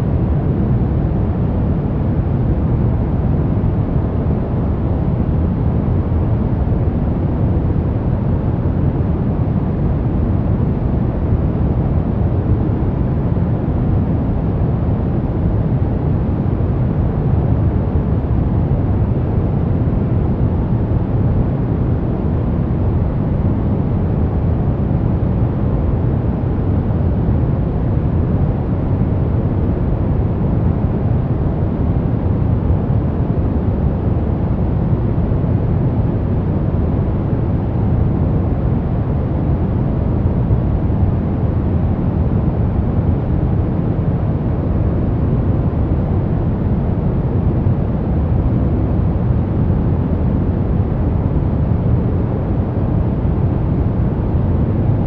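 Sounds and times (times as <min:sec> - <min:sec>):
deep white noise: 0:00.0 - 0:55.0.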